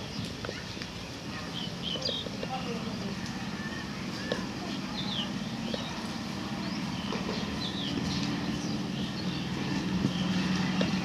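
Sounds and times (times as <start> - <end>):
birds chirping: 0.0 - 11.0
low outdoor hum: 0.0 - 11.0.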